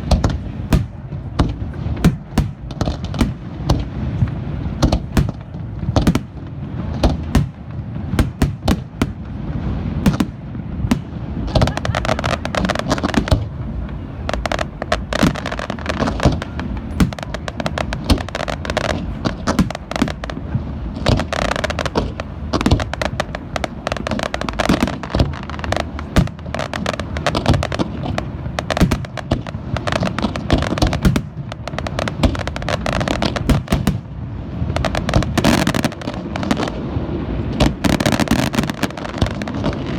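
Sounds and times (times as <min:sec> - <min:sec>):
fireworks bursts and bangs: 0:00.0 - 0:39.9.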